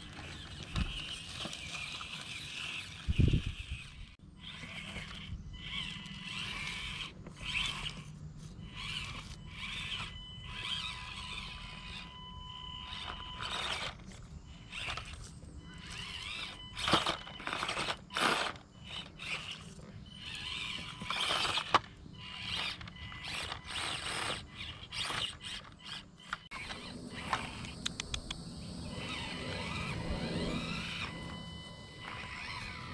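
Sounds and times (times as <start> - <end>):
tyres crunching over rock and leaves: 0.0 - 12.0, 12.8 - 27.8
small electric motor whining: 0.0 - 32.9.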